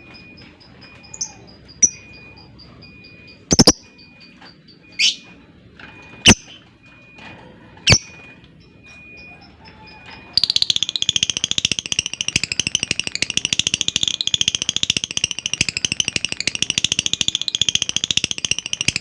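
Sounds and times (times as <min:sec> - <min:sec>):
soft rapid high chirps: 0:00.2 - 0:05.4, 0:06.2 - 0:06.6, 0:07.9 - 0:09.3, 0:10.4 - 0:19.0.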